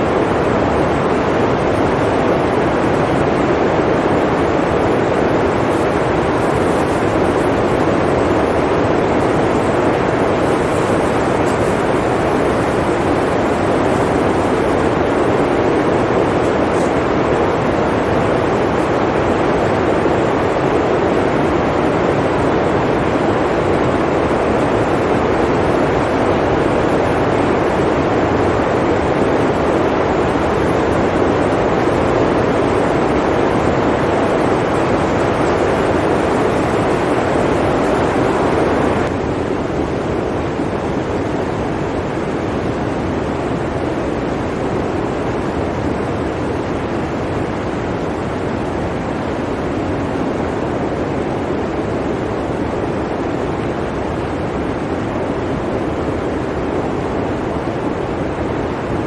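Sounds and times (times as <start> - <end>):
blizzard wind rushing: 0.0 - 59.0.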